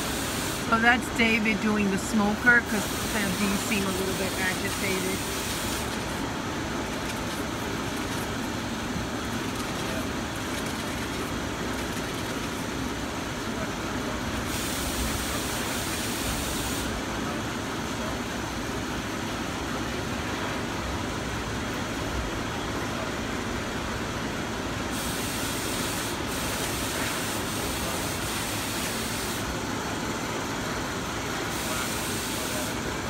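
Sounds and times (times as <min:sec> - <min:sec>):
low city rumble: 0:00.0 - 0:33.0.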